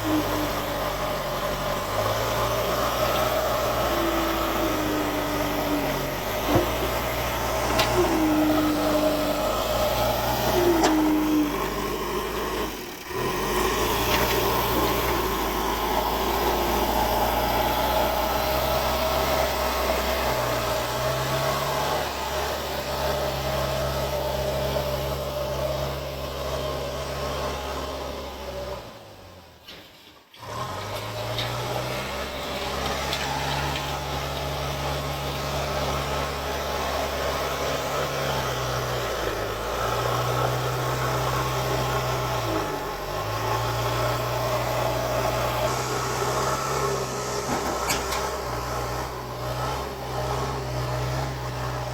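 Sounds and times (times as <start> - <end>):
diesel engine running under load: 0.0 - 29.7, 30.4 - 51.9.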